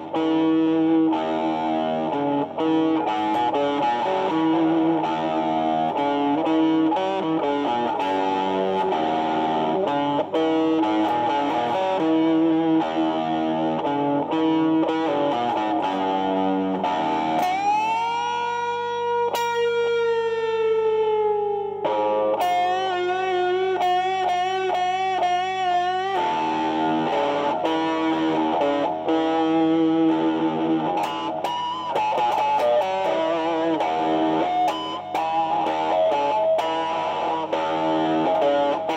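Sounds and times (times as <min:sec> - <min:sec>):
electric guitar playing blues lead: 0:00.0 - 0:38.9.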